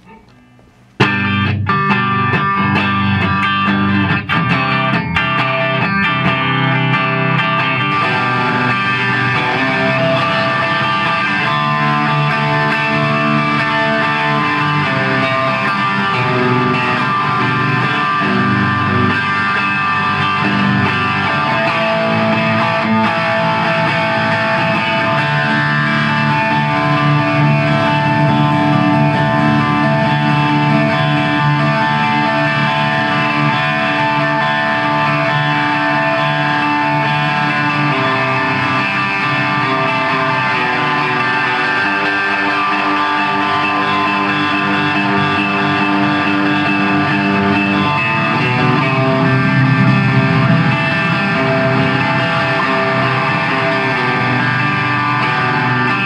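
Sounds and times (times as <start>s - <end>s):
overdriven electric guitar: 0.0s - 56.0s.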